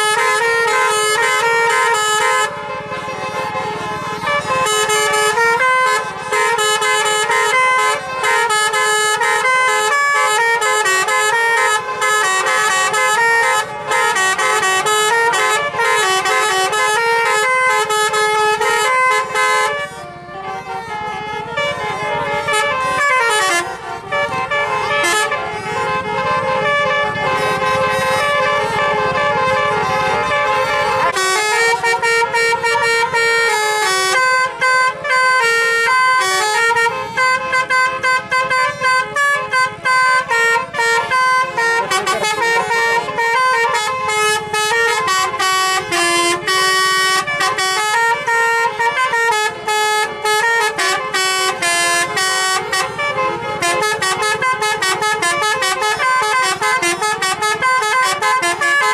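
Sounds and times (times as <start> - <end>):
bus horn playing a melody: 0.0 - 58.9.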